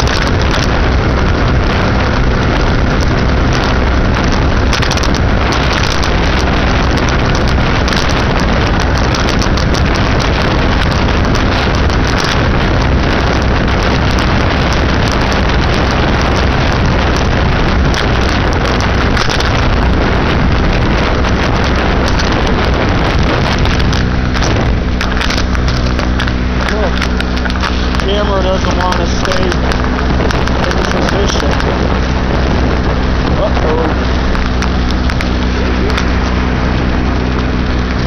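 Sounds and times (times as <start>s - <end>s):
moped engine running: 0.0s - 38.0s
wind noise on microphone: 0.0s - 38.0s.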